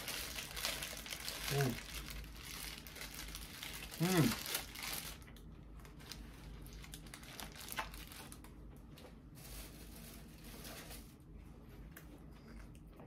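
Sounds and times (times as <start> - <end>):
paper wrapping crinkling: 0.0 - 8.5, 9.3 - 11.2.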